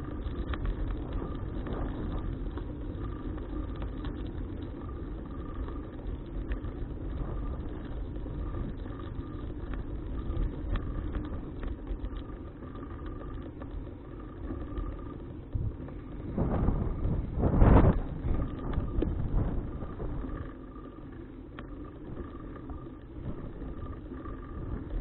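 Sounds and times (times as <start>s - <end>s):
steady wind: 0.0s - 25.0s.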